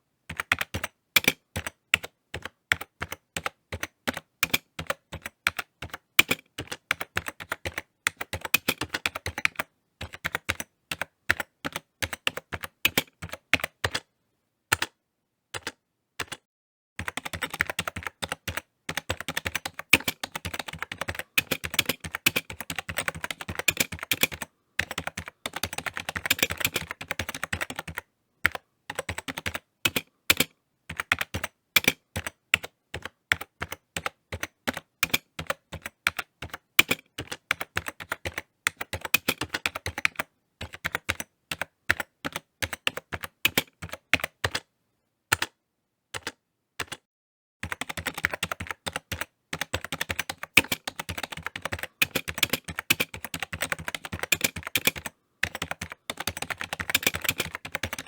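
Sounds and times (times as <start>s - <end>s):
typing on computer keyboard: 0.3s - 14.1s, 14.7s - 15.0s, 15.6s - 44.7s, 45.3s - 58.0s.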